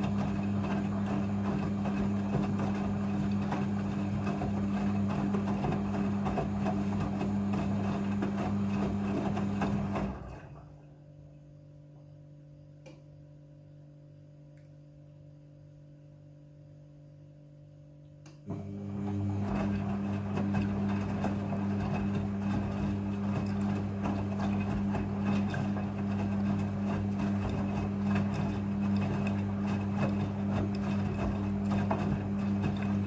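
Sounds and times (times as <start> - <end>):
washing machine humming and churning: 0.0 - 11.9, 18.4 - 33.0.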